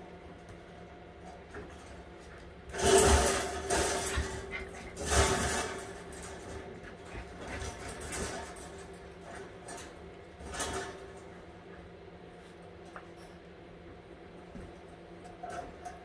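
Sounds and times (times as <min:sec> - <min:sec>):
puppies play-fighting on tile floor: 0:00.2 - 0:16.0.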